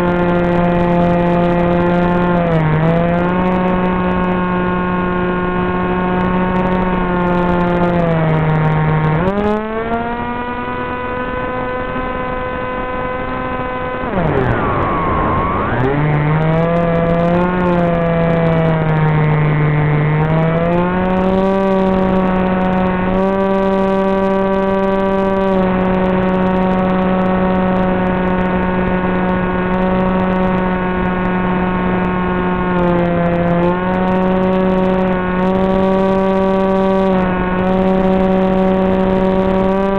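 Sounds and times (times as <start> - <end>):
model plane propeller droning: 0.0 - 39.9.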